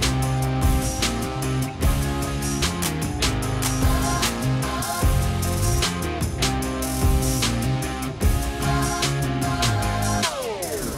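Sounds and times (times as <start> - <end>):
rock music with guitar and drums: 0.0 - 10.9.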